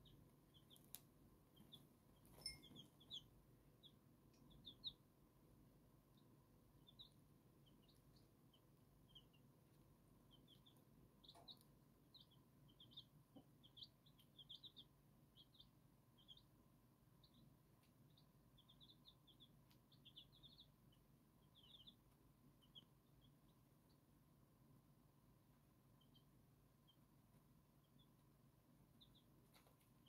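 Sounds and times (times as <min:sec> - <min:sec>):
chicks peeping: 0:00.0 - 0:05.1, 0:05.8 - 0:24.2, 0:25.4 - 0:30.0.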